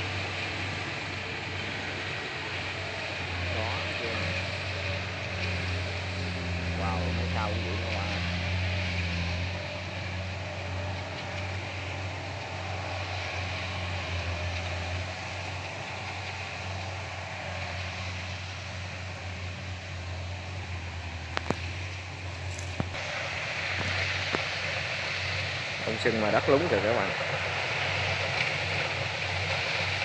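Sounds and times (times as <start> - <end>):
combine harvester diesel engine running: 0.0 - 30.0.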